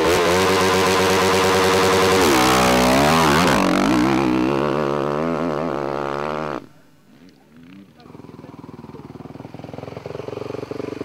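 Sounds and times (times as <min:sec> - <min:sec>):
motorcycle engine revving hard: 0:00.0 - 0:06.7, 0:08.1 - 0:11.0.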